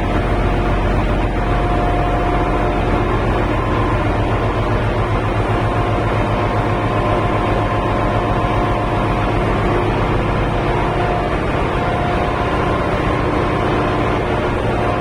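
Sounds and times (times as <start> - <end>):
engine room machinery drone: 0.0 - 15.0.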